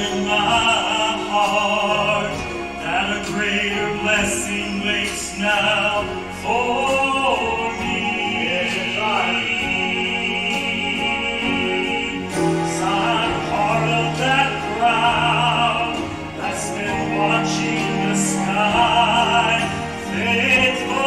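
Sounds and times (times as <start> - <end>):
instrumental accompaniment: 0.0 - 21.0
man singing with vibrato: 0.0 - 21.0.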